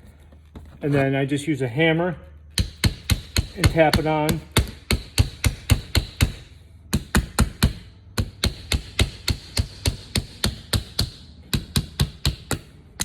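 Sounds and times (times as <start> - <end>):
hammer tapping metal: 2.5 - 13.0.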